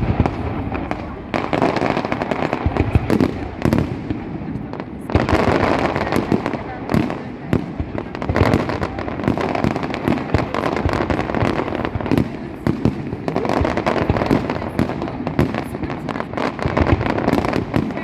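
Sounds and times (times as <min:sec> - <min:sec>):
crackling rumble: 0:00.0 - 0:18.0
fireworks bangs: 0:00.0 - 0:18.0.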